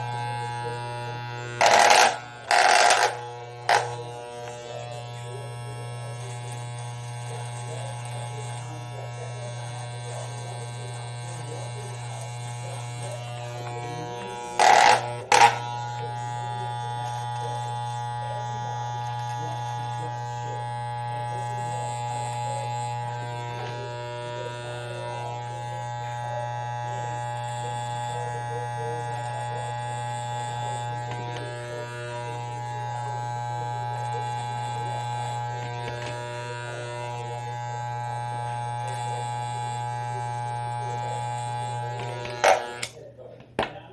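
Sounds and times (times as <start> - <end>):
electric shaver buzzing: 0.0 - 43.9.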